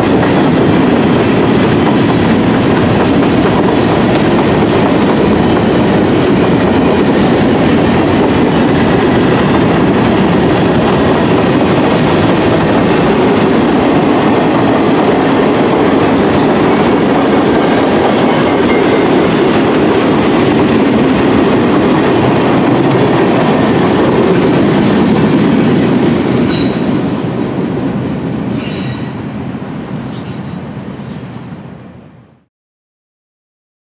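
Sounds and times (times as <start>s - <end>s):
freight train wheels rumbling: 0.0s - 32.1s.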